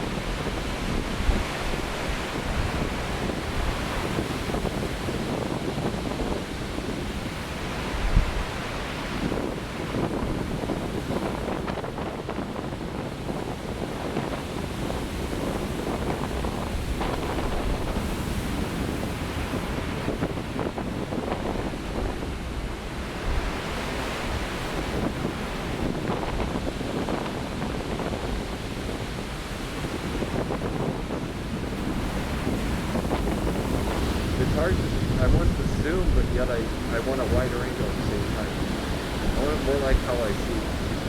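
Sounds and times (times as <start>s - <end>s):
surf waves breaking: 0.0s - 41.0s
wind buffeting microphone: 0.0s - 41.0s.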